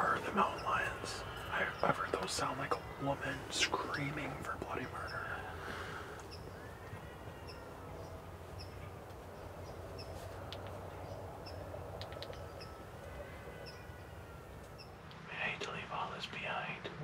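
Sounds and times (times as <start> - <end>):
faint wavering cries: 0.0 - 15.0.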